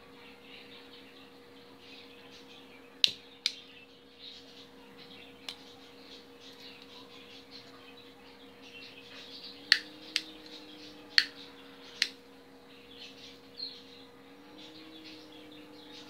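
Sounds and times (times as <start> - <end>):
steady low hum: 0.0 - 16.0
bird chirping: 0.2 - 16.0.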